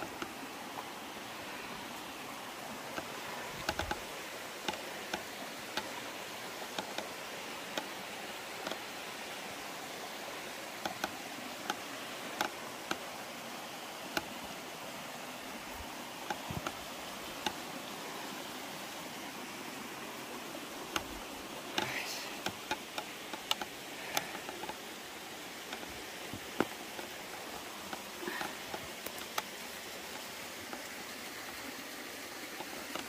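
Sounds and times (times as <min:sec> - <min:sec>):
waterfall and creek rushing: 0:00.0 - 0:33.0.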